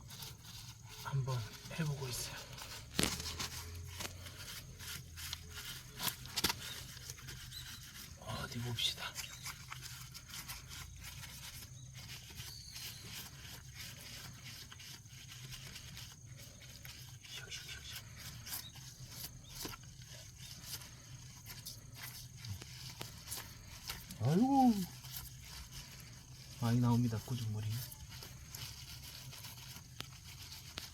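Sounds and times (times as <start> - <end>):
steel wool scraping car wheel: 0.0 - 30.9.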